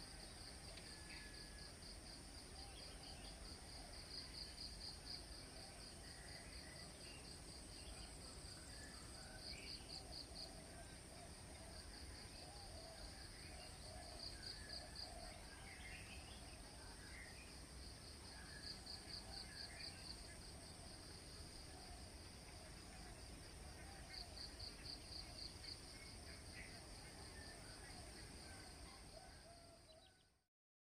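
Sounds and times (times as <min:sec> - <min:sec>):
insects droning: 0:00.0 - 0:29.6.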